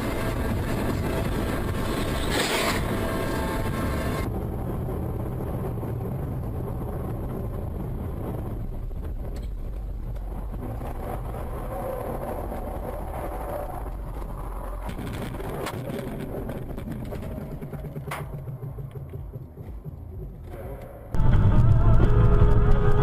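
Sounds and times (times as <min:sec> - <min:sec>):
car road and engine noise: 0:00.0 - 0:23.0.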